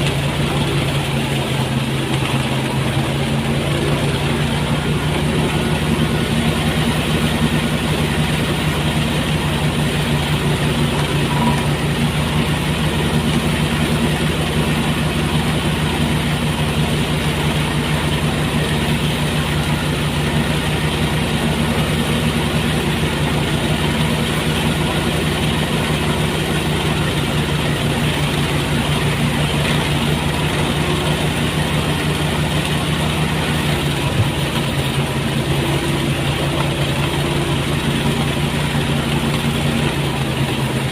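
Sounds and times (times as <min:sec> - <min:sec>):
rice thresher engine running: 0:00.0 - 0:40.9.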